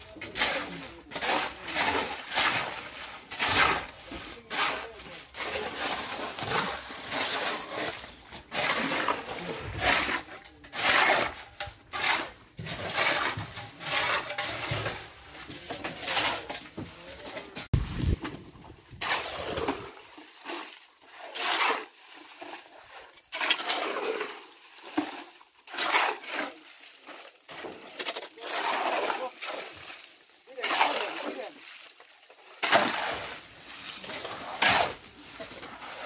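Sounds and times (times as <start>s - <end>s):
shovels scraping through gravel: 0.0s - 18.2s, 18.9s - 31.6s, 32.6s - 36.0s.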